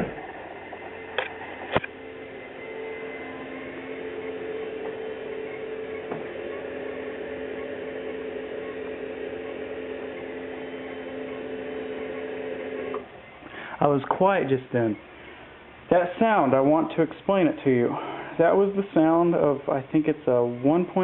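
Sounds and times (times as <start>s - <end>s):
electric pump humming: 0.0s - 21.0s.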